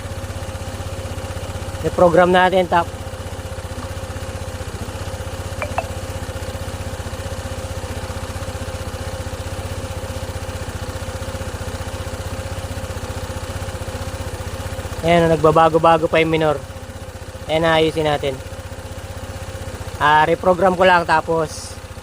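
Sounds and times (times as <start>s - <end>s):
scooter engine idling: 0.0s - 22.0s.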